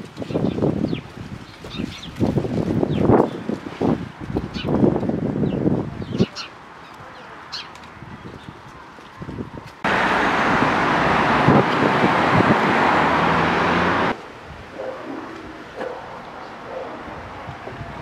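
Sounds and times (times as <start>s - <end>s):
street traffic rush: 2.4s - 18.0s.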